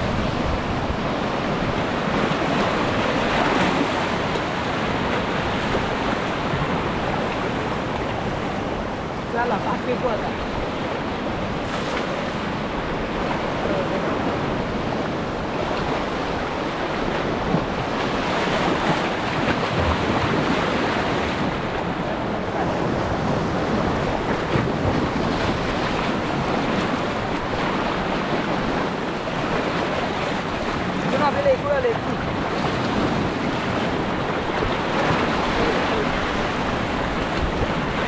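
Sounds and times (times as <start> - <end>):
sea surf breaking: 0.0 - 38.0
wind buffeting microphone: 0.0 - 38.0.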